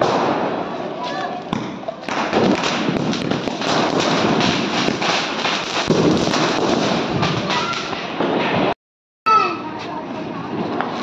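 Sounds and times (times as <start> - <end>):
firecrackers crackling: 0.0 - 8.8, 9.7 - 11.0.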